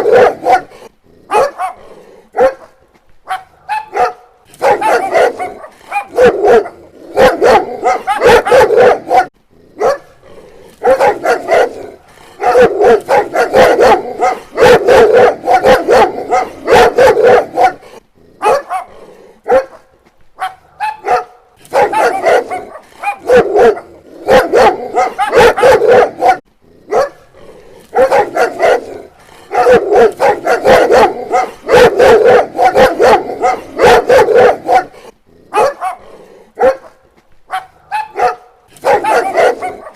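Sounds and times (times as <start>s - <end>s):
dog barking: 0.0s - 10.2s, 10.8s - 27.3s, 27.9s - 39.9s.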